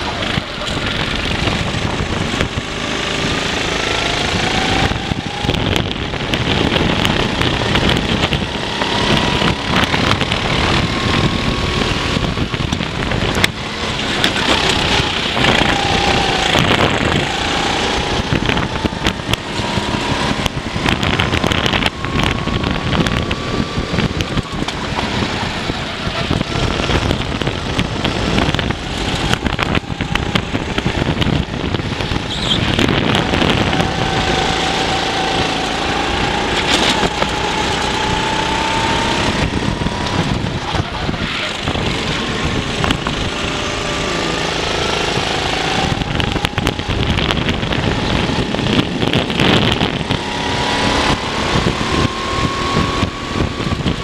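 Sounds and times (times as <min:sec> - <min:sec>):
kart engine accelerating: 0:00.0 - 0:54.0.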